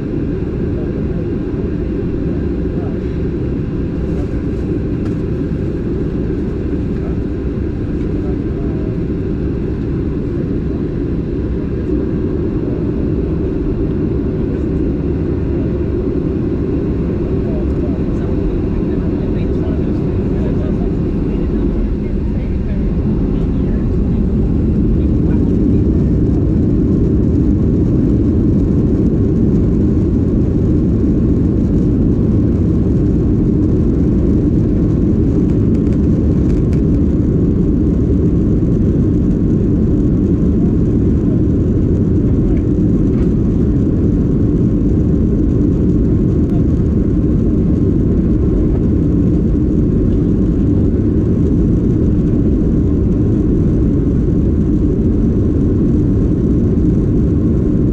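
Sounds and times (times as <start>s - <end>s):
jet engine cabin roar: 0.0s - 57.9s.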